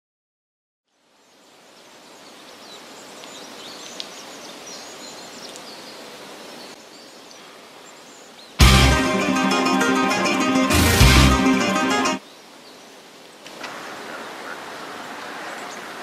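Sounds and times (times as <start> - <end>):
steady background hiss: 0.9 - 16.0.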